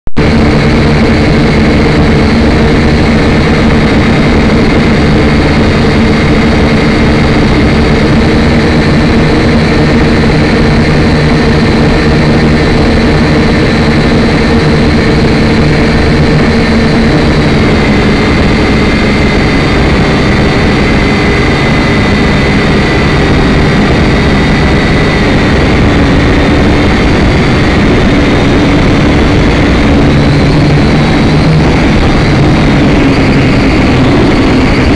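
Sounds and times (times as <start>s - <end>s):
rushing noise: 0.1s - 34.9s
quadcopter motors whining: 0.2s - 34.9s.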